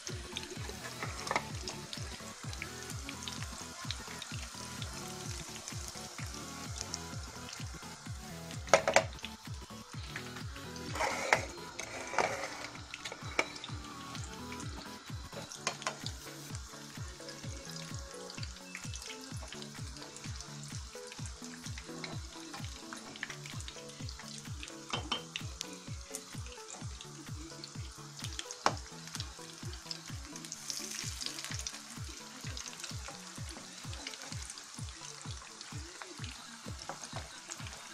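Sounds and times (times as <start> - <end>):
background music with beat: 0.0 - 37.9
food deep-frying in oil: 0.0 - 37.9.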